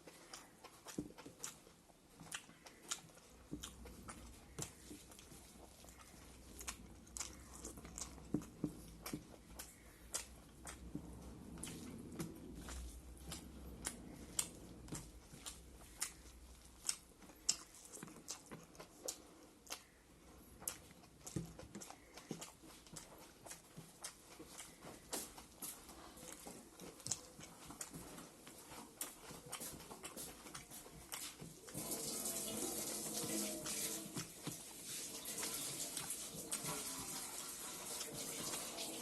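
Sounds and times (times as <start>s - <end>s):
chewing food: 0.0s - 39.0s.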